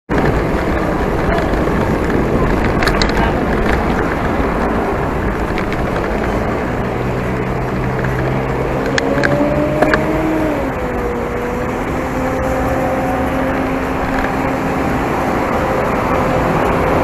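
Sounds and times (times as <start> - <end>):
vehicle engine hum: 0.1 - 17.0
wind rushing over microphone: 0.1 - 17.0.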